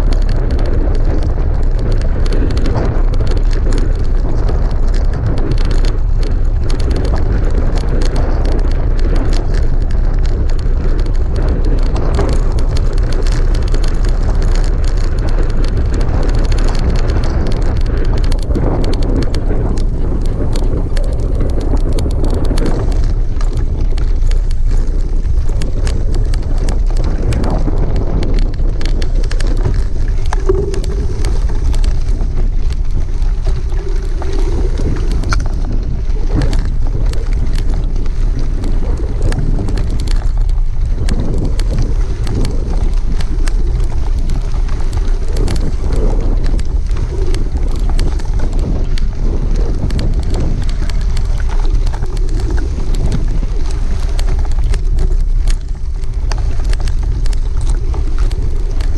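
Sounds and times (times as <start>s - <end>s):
bike clicks and rattles: 0.0s - 58.9s
wind buffeting microphone: 0.0s - 58.9s.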